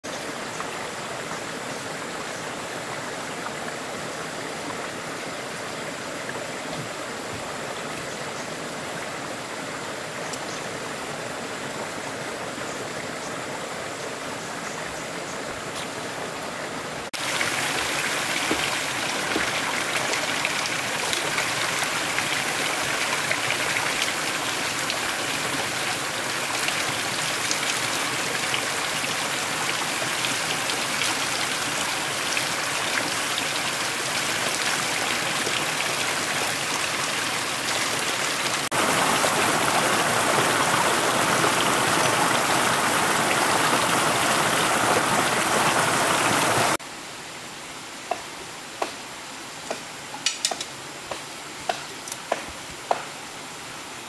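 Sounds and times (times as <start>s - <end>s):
running water: 0.0s - 46.8s
rain: 0.0s - 54.0s.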